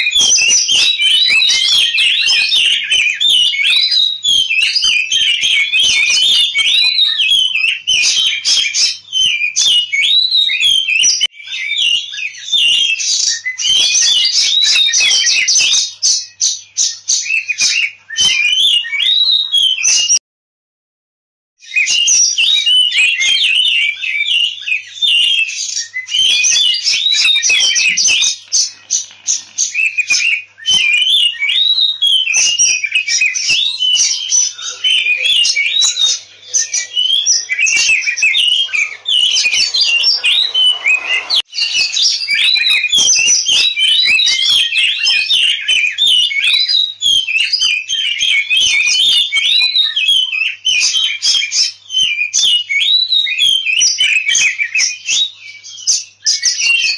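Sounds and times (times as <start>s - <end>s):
bird singing: 0.0s - 20.2s, 21.6s - 56.9s.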